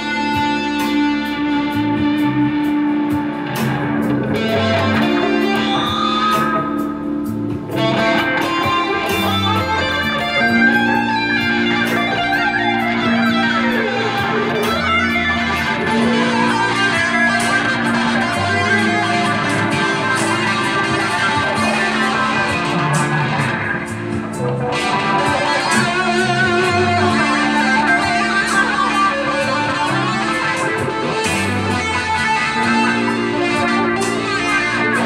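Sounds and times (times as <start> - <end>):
electric guitar lead lines: 0.0 - 35.0.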